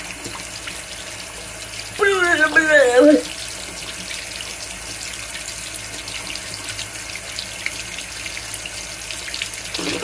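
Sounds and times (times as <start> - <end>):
faucet water splashing into sink: 0.0 - 10.0.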